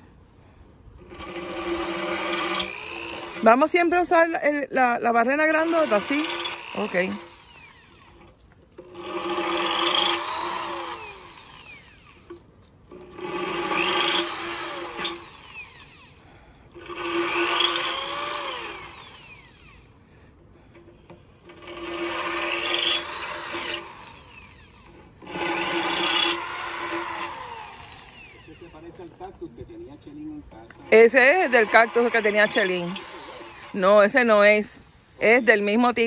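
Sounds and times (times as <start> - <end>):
cordless drill boring through clay: 0.9 - 4.5, 5.2 - 20.0, 20.7 - 29.0, 30.7 - 35.4.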